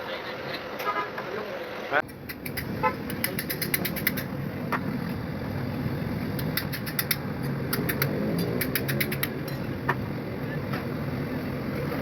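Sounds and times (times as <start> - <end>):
vehicle engine running: 2.0 - 12.0.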